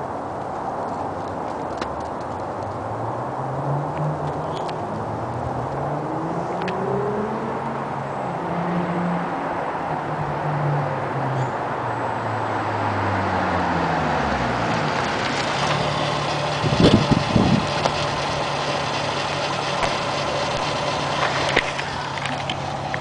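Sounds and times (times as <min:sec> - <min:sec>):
car engine driving: 0:00.0 - 0:23.0.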